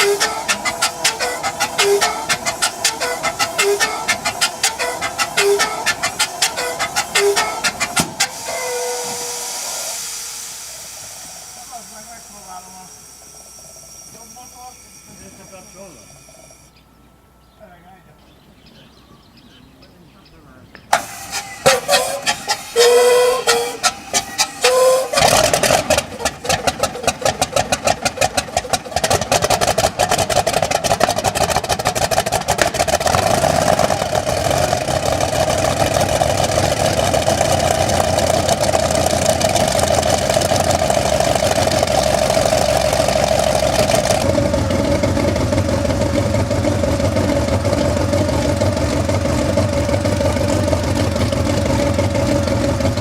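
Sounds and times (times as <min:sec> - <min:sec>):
helicopter engine starting: 0:00.0 - 0:16.8, 0:20.8 - 0:53.0.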